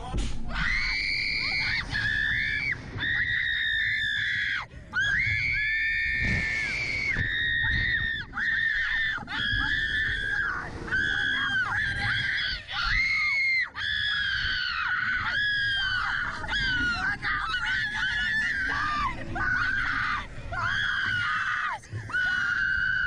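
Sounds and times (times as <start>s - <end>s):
women screaming: 0.5s - 23.0s.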